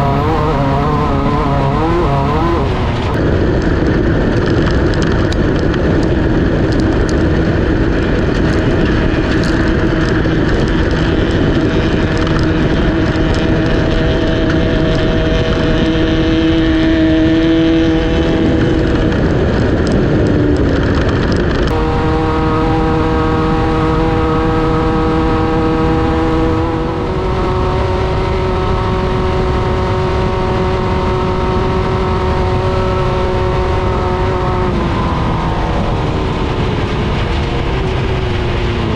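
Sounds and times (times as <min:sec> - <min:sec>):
buggy engine running hard: 0:00.0 - 0:38.9.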